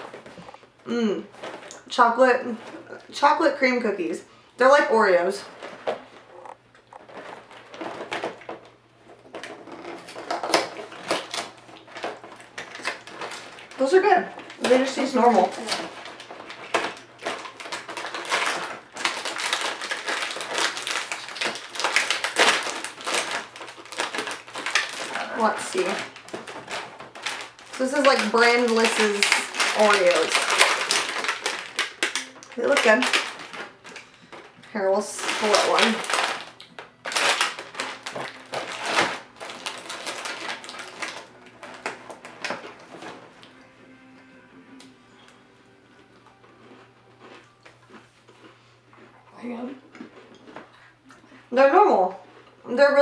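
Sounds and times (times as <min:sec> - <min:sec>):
plastic bag crinkling: 0:00.0 - 0:03.6, 0:04.7 - 0:43.7, 0:46.6 - 0:49.1.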